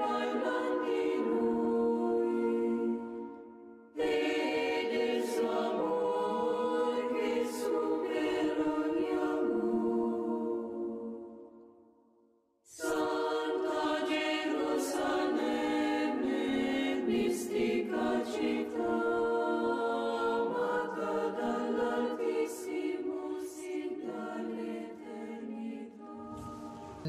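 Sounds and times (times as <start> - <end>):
choir singing: 0.0 - 11.9, 12.7 - 27.0.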